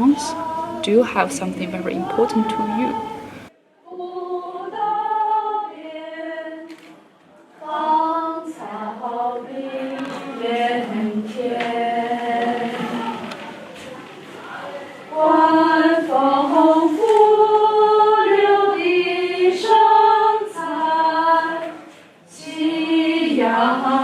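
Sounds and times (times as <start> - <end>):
voices singing a cappella: 0.0 - 6.9, 7.6 - 24.0.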